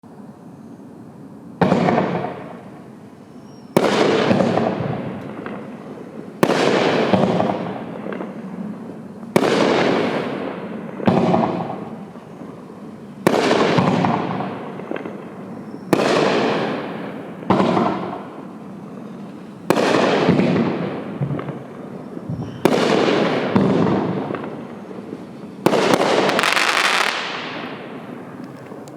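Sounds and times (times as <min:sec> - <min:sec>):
firework shots with hissing crackle: 0:01.6 - 0:28.9.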